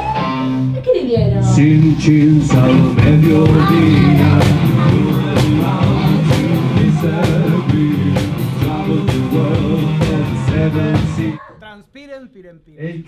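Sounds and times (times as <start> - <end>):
bass guitar: 0.0 - 11.4
drums: 0.0 - 11.4
electric guitar: 0.0 - 11.4.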